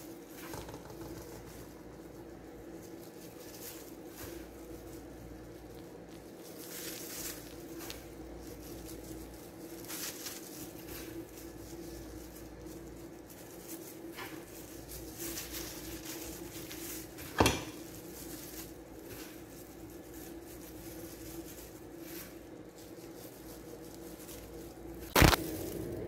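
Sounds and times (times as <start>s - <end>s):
soft patter of sprinkled sugar: 0.0s - 26.0s
steady hum: 0.0s - 26.0s.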